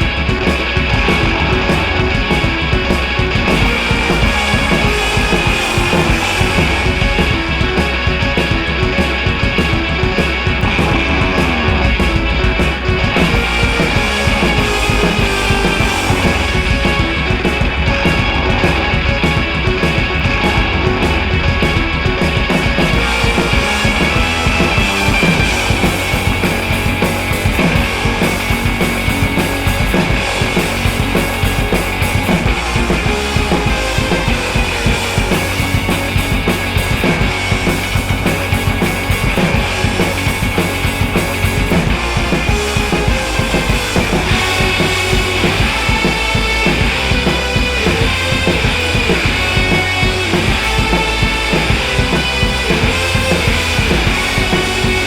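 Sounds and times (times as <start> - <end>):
rock music with drum beat: 0.0 - 55.0.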